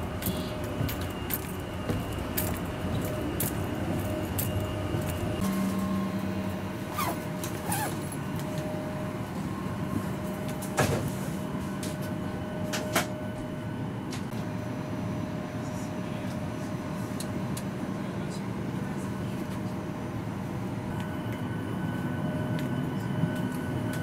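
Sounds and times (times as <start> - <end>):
airliner cabin hum: 0.0 - 24.0.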